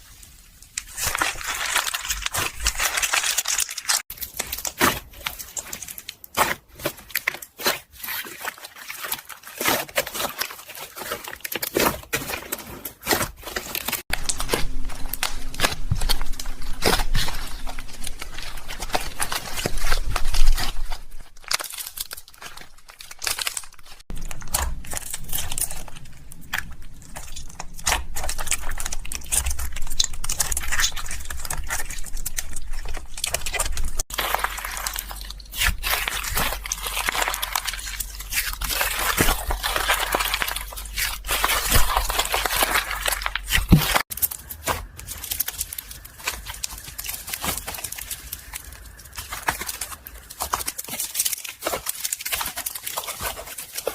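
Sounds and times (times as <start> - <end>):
slime squished by hand: 0.6 - 53.9.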